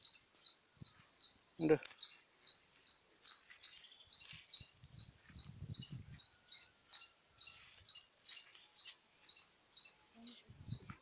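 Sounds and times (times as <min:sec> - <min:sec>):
bird high chirp: 0:00.0 - 0:11.0.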